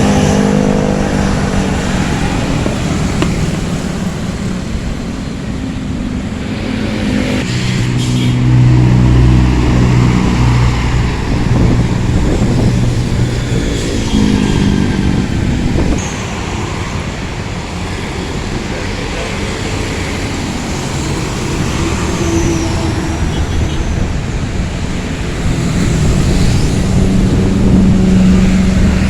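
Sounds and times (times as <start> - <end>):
road noise: 0.0 - 29.0.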